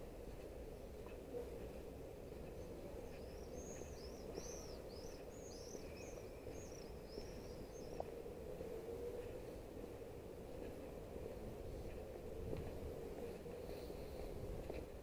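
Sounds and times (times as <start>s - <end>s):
songbird singing: 0.0s - 14.3s
low hum of town: 0.0s - 15.0s.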